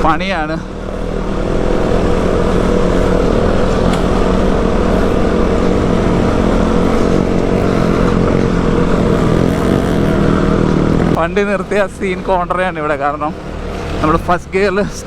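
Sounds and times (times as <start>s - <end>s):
motorcycle engine running under load: 0.0s - 12.5s.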